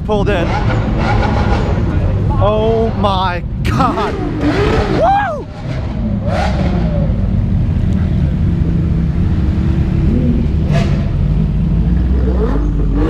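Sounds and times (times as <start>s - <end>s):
car engines rumbling at low revs: 0.0s - 13.0s.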